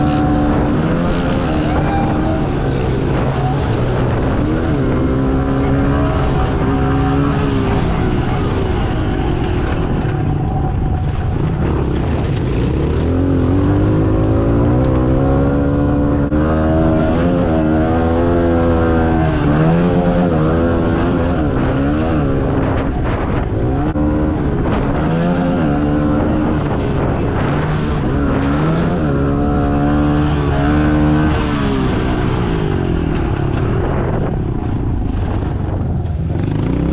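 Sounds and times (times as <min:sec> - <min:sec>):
pit bike engines racing: 0:00.0 - 0:36.9.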